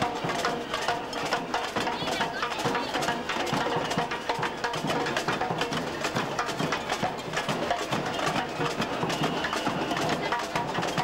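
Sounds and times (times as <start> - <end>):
massed drums: 0.0 - 11.0
wooden and metal hand percussion: 0.0 - 11.0.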